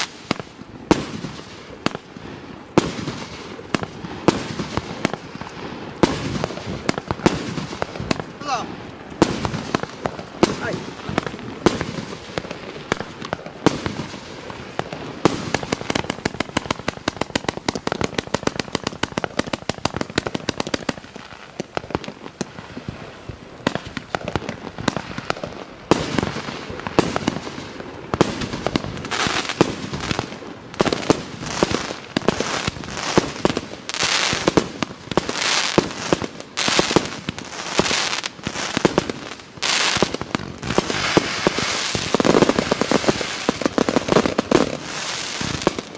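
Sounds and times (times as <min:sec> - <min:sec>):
fireworks firing shots: 0:00.0 - 0:45.9
fireworks hissing bursts: 0:00.0 - 0:45.9.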